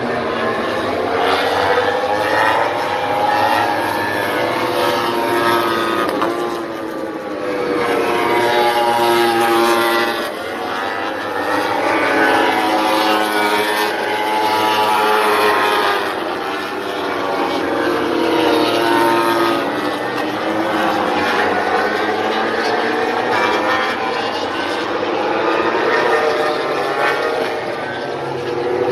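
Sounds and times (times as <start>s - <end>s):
racing motorcycles passing: 0.0s - 28.9s.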